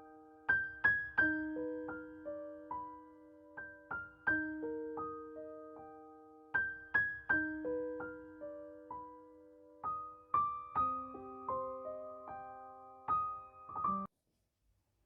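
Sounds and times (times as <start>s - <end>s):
gentle piano melody: 0.0s - 14.1s.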